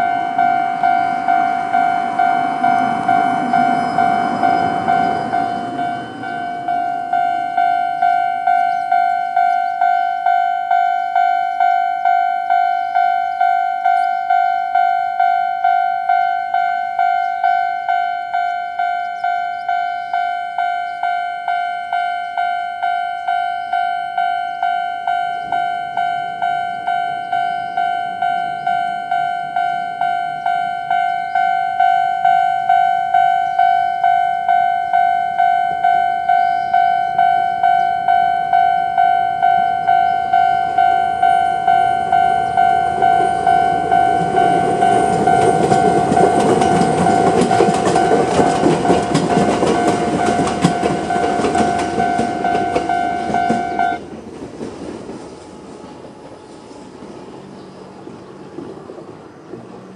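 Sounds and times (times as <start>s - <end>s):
level crossing warning bell ringing: 0.0s - 54.1s
train wheels rumbling on rails: 0.0s - 59.9s.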